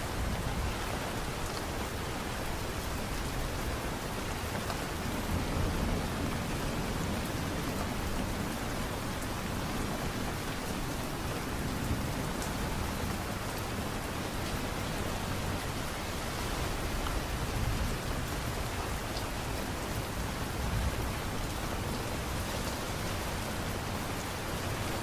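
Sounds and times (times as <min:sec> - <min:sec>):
light rain falling: 0:00.0 - 0:25.0.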